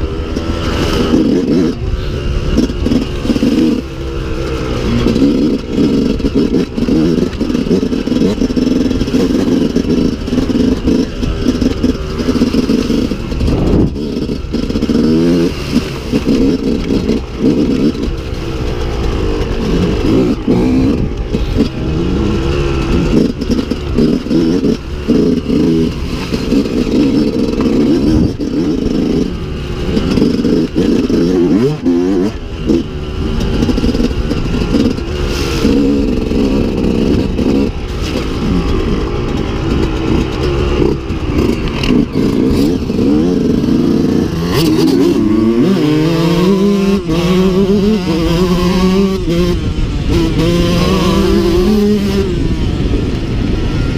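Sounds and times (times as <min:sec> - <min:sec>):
dirt bike engine revving: 0:00.0 - 0:53.9
rattles from rough ground: 0:00.0 - 0:53.9.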